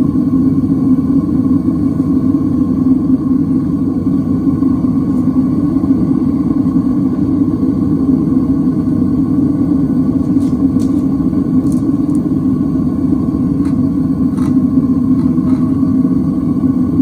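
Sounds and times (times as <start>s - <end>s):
propane burner rumbling: 0.0s - 17.0s.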